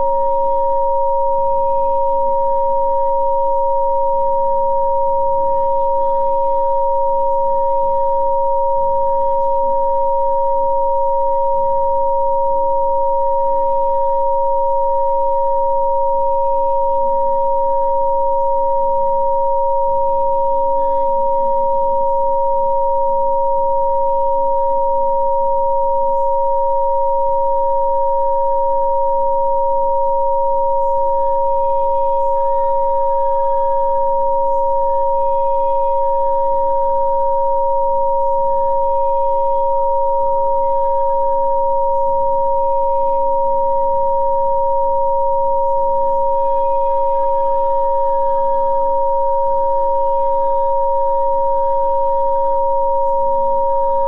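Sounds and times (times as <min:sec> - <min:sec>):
steady electronic sine tones: 0:00.0 - 0:54.0.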